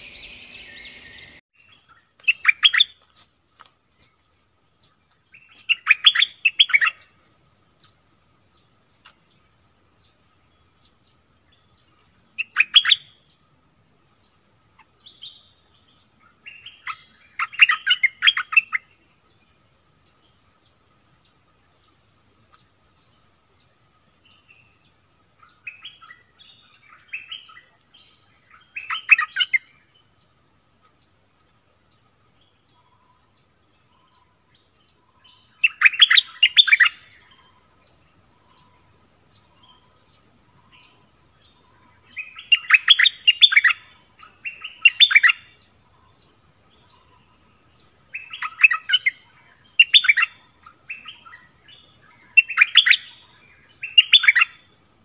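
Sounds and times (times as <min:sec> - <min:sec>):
bird chattering song: 0:00.0 - 0:03.3, 0:04.8 - 0:13.5, 0:14.2 - 0:30.4, 0:31.9 - 0:54.7
faint insect ticking: 0:00.0 - 0:55.0.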